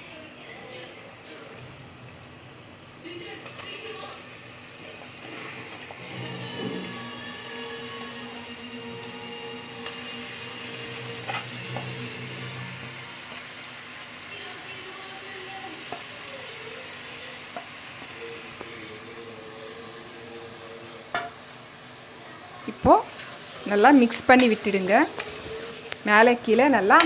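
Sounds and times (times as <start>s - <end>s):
meat sizzling in hot oil: 0.0s - 26.4s.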